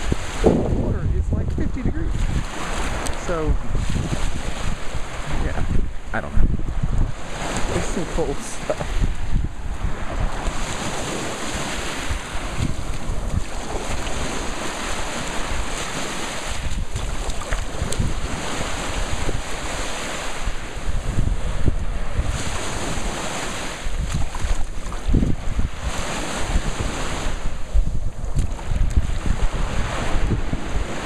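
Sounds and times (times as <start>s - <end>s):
small waves washing on sand: 0.0s - 31.0s
wind rumbling on microphone: 0.0s - 31.0s.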